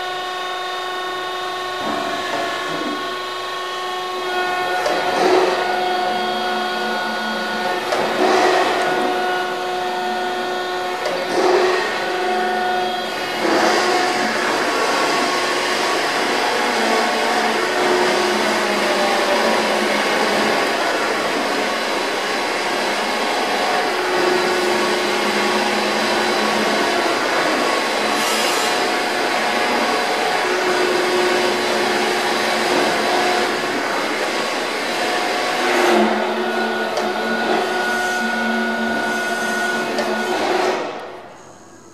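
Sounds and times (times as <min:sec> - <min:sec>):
surface grinder whirring: 0:00.0 - 0:41.9.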